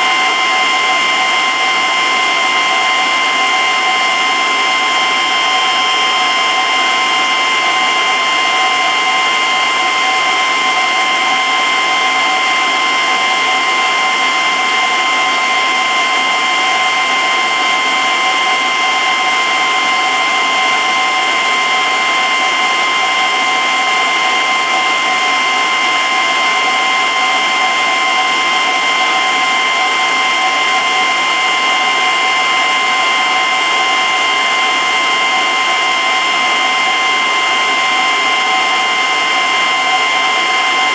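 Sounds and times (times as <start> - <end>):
aquarium pump whirring: 0.0 - 40.9.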